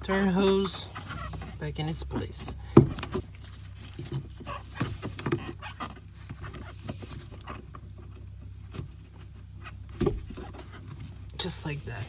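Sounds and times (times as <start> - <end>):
fuel hose clicks and knocks: 0.0 - 11.5.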